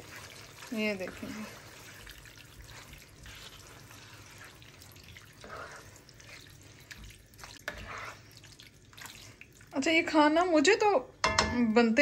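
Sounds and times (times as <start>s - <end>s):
pasta stirred in creamy sauce: 0.0s - 10.6s.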